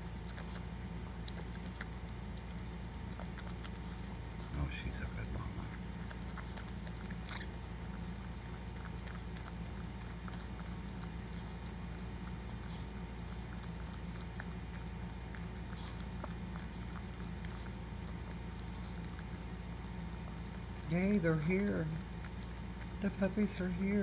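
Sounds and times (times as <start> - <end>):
dog licking wet mouth clicks: 0.0 - 4.5, 5.2 - 20.9, 21.8 - 23.7
steady low hum: 0.0 - 24.0.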